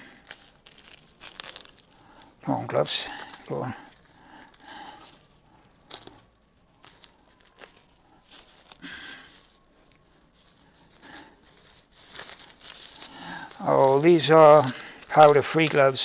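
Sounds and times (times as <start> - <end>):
disposable gloves rustling: 0.0 - 16.0.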